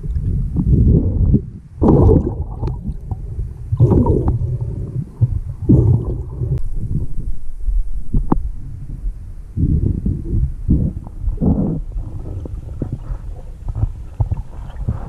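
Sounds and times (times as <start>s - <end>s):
underwater rumbling and gurgling: 0.0s - 15.0s.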